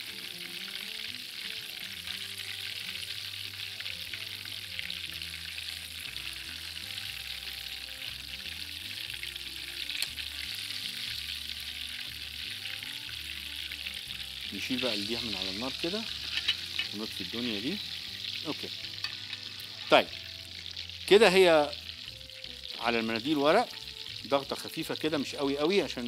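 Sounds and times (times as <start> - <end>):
meat sizzling in hot oil: 0.0 - 26.0.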